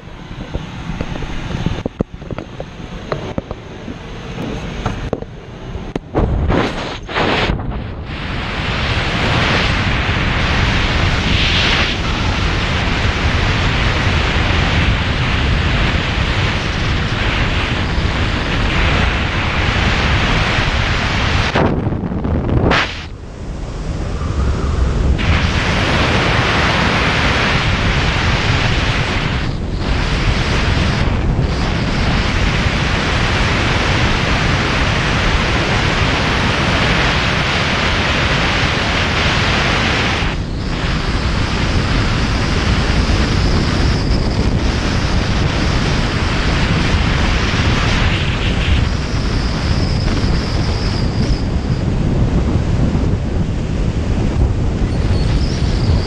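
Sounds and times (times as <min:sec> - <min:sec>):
wind rushing past camera: 0:00.0 - 0:56.0.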